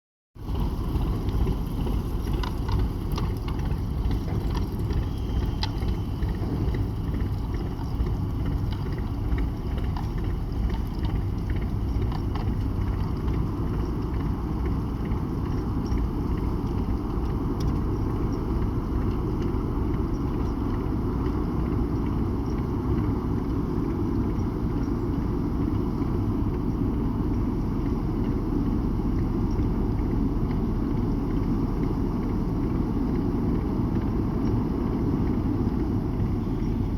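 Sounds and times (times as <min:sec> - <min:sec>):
ship engines rumbling: 0:00.4 - 0:36.9.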